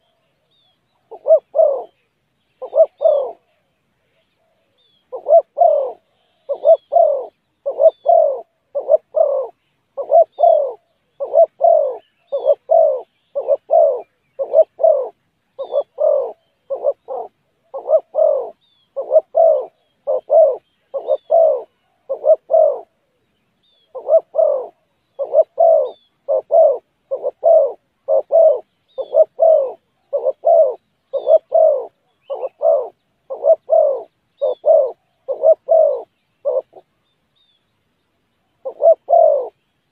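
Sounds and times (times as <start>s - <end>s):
dove cooing: 0.0s - 37.0s, 38.4s - 39.7s
small birds chirping: 0.0s - 39.9s.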